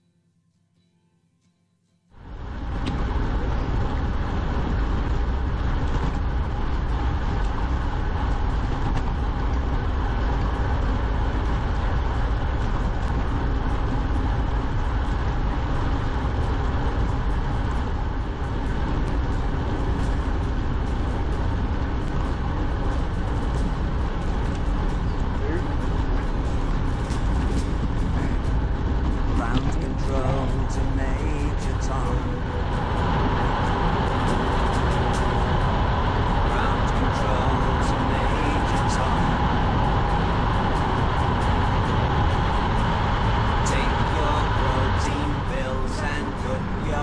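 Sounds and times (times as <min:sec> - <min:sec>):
wind and road noise: 0:02.1 - 0:47.0.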